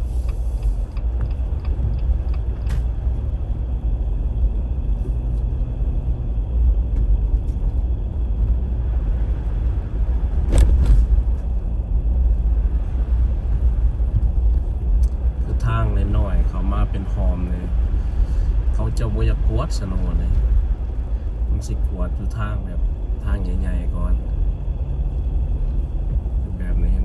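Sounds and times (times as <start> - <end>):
car driving on snowy road: 0.0 - 27.0.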